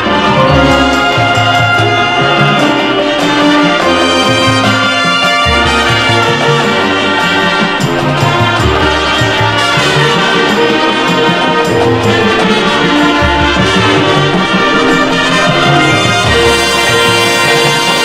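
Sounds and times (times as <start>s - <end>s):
marching band brass chords: 0.0s - 18.0s.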